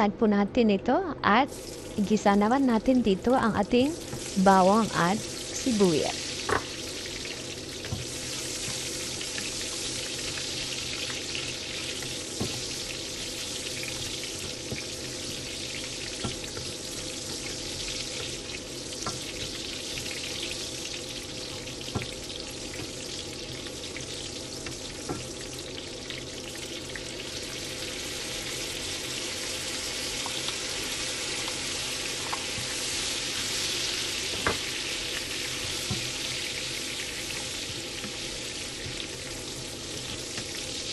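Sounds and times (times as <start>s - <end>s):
garlic and onion sizzling in oil: 1.4s - 40.9s.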